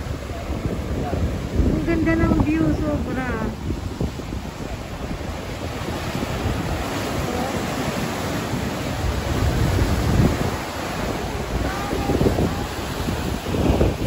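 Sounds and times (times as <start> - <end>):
ocean surf washing in: 0.0 - 14.0
wind buffeting microphone: 0.0 - 14.0.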